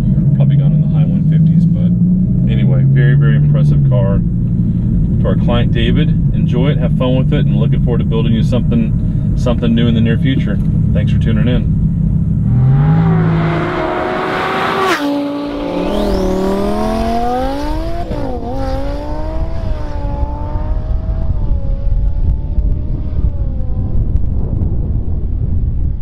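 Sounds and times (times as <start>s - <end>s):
car engine accelerating hard: 0.0s - 24.8s.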